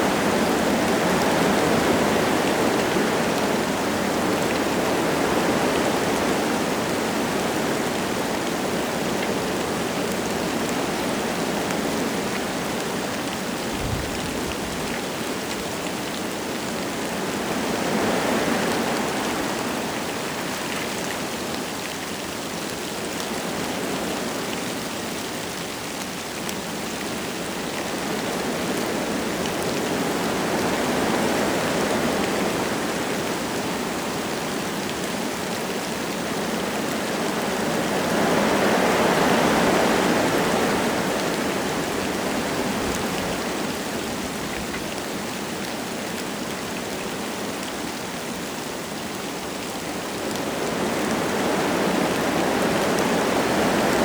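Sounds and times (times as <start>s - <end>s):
light rain falling: 0.0s - 54.0s
wind gusting through trees: 0.0s - 54.0s.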